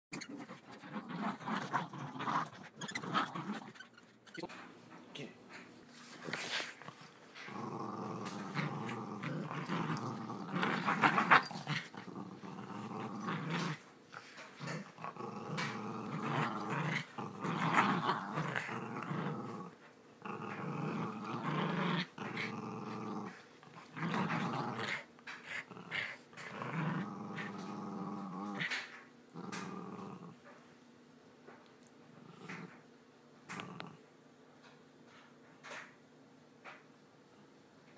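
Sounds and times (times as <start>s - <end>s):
dogs play-growling: 0.1s - 30.7s, 32.0s - 34.0s.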